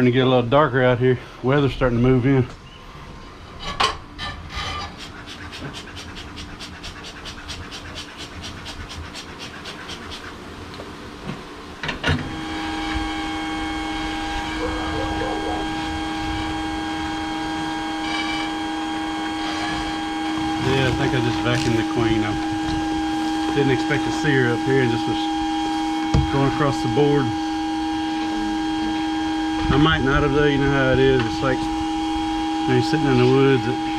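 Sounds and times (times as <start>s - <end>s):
vacuum motor humming: 5.0s - 33.9s.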